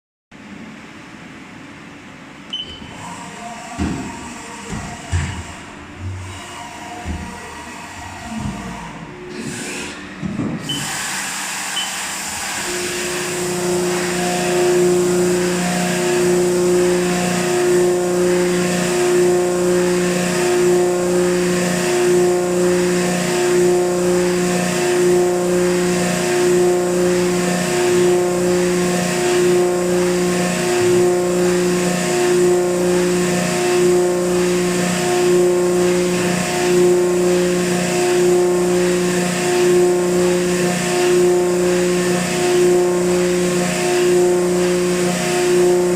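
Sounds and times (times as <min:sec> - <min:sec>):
milling machine pulsing hum: 0:00.4 - 0:45.9.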